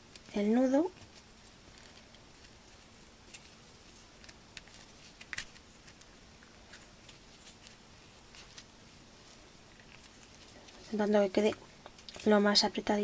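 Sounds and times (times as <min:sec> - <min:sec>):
cord rustling through fingers: 0:00.9 - 0:12.4.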